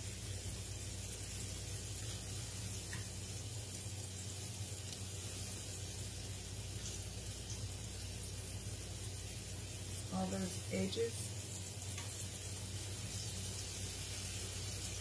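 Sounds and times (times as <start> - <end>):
low constant hum: 0.0 - 15.0
steak sizzling in a skillet: 0.0 - 15.0.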